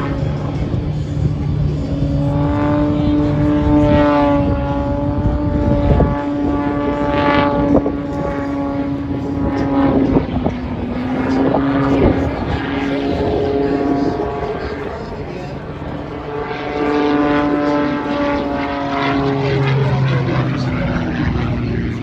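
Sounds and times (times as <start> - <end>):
propeller airplane droning: 0.0 - 22.0.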